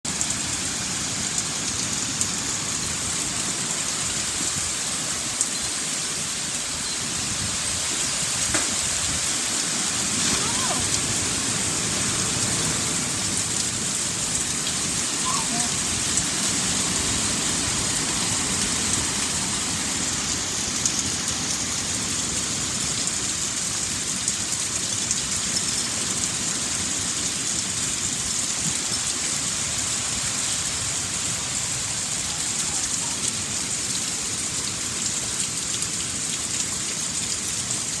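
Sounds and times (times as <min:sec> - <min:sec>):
steady rain hiss: 0:00.1 - 0:38.0.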